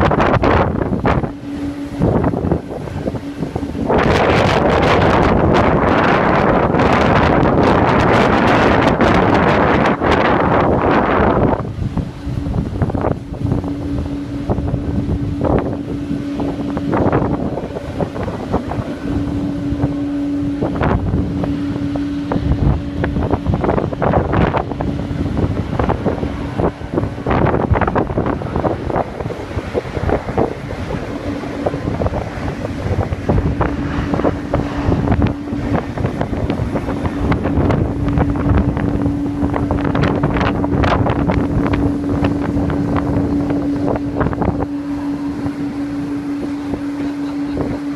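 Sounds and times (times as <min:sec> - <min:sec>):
steady engine hum: 0:00.0 - 0:47.9
wind buffeting microphone: 0:00.0 - 0:47.9.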